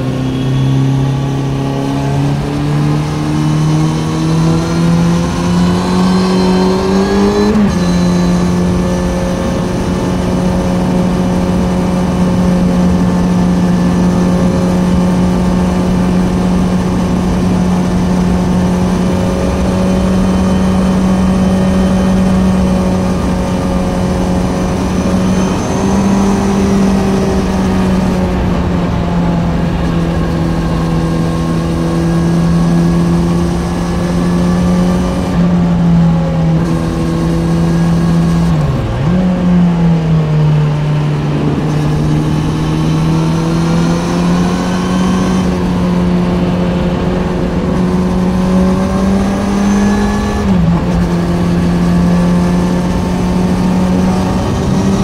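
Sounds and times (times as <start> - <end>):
motorcycle engine revving: 0.0 - 55.0
wind and road noise: 0.0 - 55.0.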